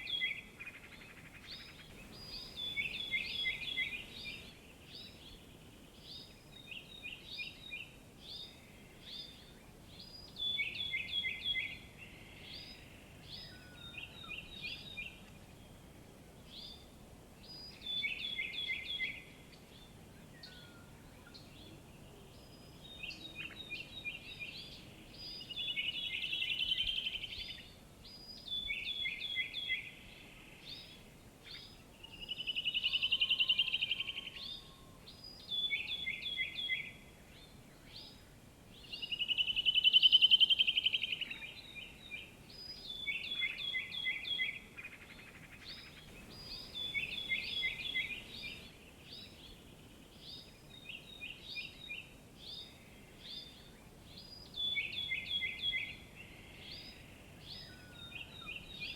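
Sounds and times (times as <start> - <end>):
birds singing: 0.0 - 58.9.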